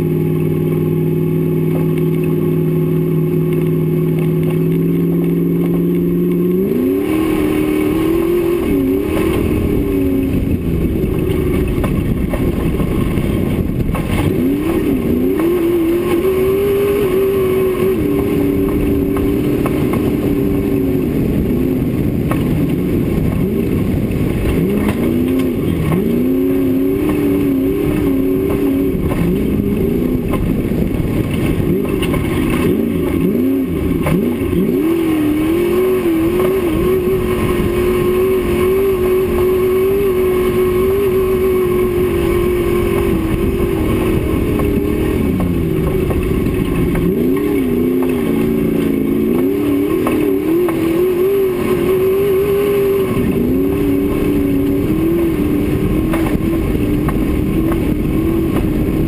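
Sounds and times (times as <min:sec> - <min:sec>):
race car engine running hard: 0:00.0 - 0:59.0
wind and road noise: 0:00.0 - 0:59.0.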